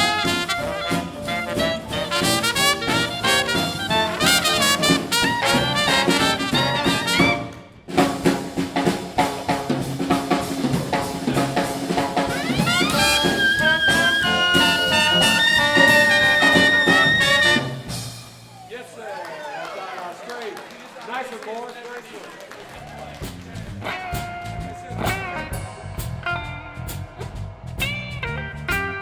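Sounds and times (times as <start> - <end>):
jazz band trumpet and trombone: 0.0 - 18.4, 23.2 - 29.0
drum kit: 0.0 - 18.8, 22.9 - 29.0.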